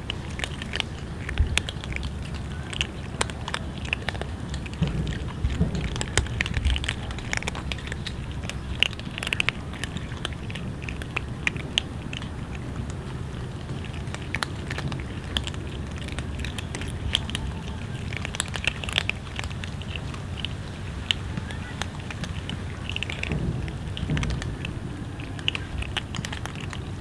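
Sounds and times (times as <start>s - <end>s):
cats chewing and crunching: 0.0s - 27.0s.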